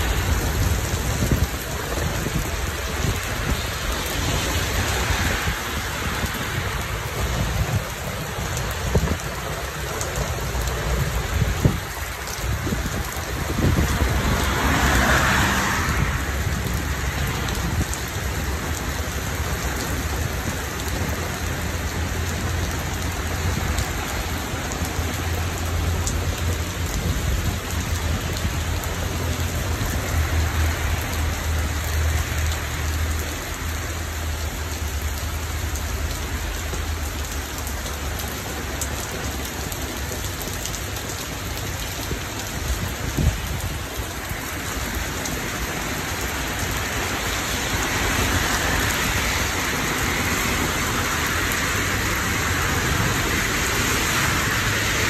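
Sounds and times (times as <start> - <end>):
heavy rain on street and leaves: 0.0 - 55.0.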